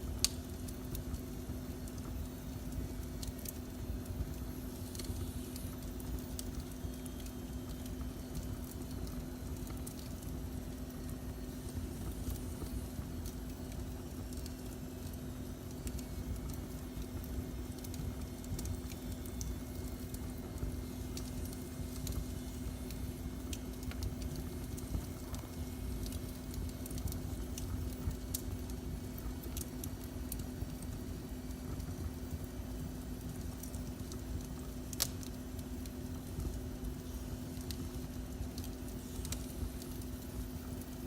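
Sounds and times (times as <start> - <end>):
constant low hum: 0.0 - 41.0
fire low rumble: 0.0 - 41.0
fire pops and snaps: 0.0 - 41.0.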